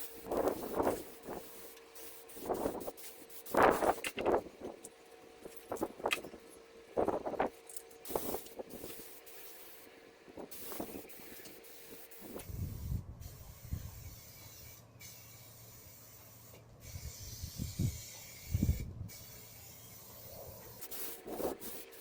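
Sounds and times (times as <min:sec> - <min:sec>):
spray paint can hissing: 0:00.0 - 0:04.4, 0:07.7 - 0:22.0.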